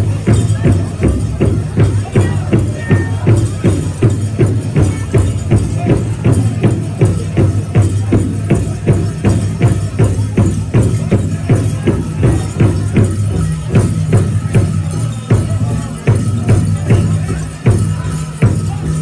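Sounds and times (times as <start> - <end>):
large drum beating: 0.0 - 19.0.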